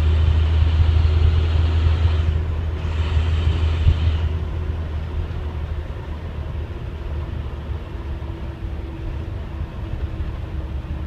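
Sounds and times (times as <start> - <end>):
diesel engine and road rumble: 0.0 - 11.0.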